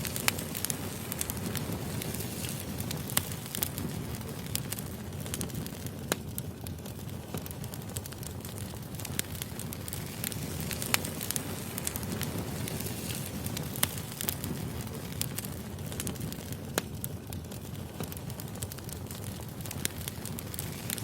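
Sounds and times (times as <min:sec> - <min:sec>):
sharp fire pops: 0:00.0 - 0:21.0
wood fire crackling: 0:00.0 - 0:21.0.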